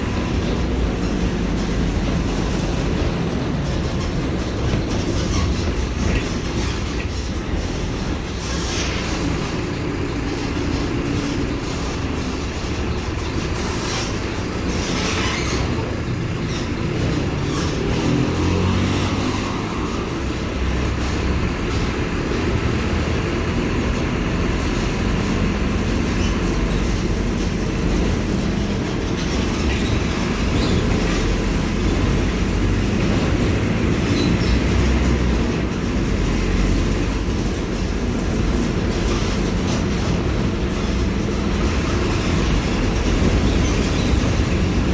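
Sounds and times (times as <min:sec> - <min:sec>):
bus body noise: 0:00.0 - 0:44.9
bus diesel engine rumbling: 0:00.0 - 0:44.9.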